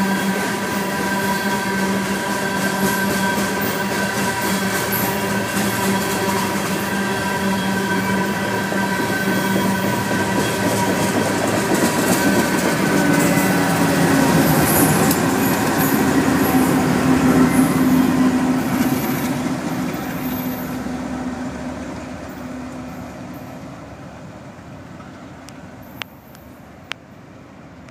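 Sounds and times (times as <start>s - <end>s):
diesel locomotive hum: 0.0s - 27.9s
train wheels on rail: 0.0s - 27.9s.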